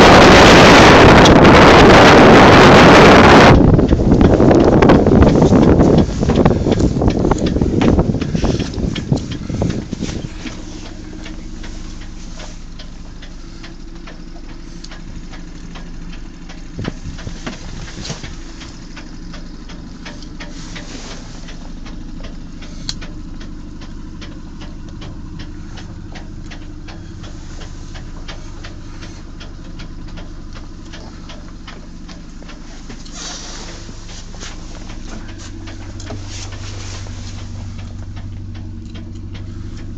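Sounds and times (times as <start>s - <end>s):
boat engine idling: 0.0s - 39.9s
light clicks and knocks: 3.8s - 39.9s.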